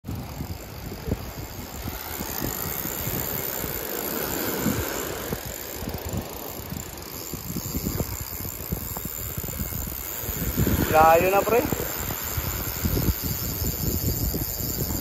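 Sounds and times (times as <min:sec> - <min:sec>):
wind buffeting microphone: 0:00.0 - 0:15.0
fishing reel drag paying out line: 0:00.1 - 0:15.0
surf rumbling: 0:00.1 - 0:15.0.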